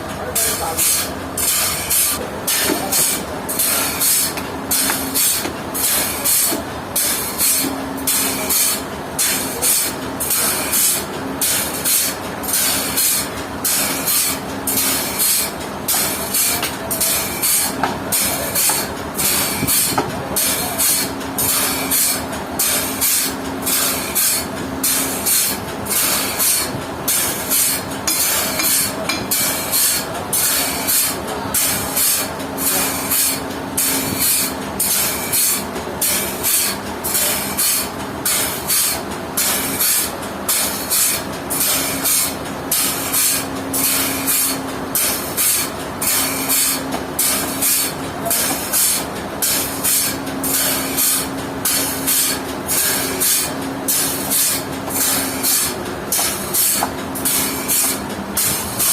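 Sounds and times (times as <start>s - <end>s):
sawmill machinery pulsing hiss: 0.0s - 58.9s.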